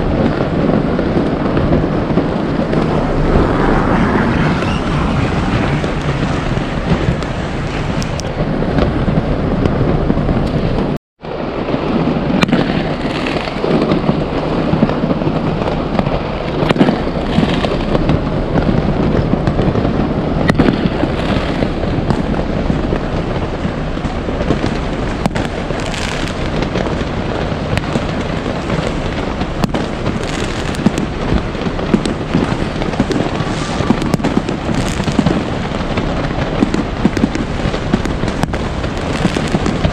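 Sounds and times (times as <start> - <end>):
fireworks bangs and crackling: 0.0 - 39.9
low rumble: 0.8 - 11.0, 14.1 - 39.9.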